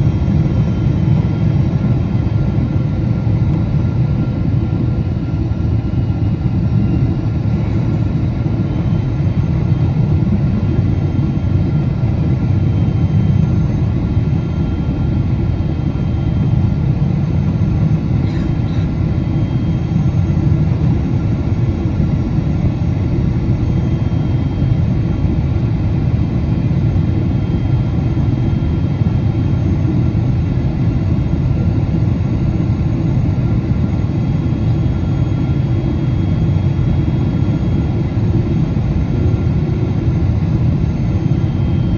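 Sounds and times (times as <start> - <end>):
aircraft engines rumbling: 0.0 - 41.9.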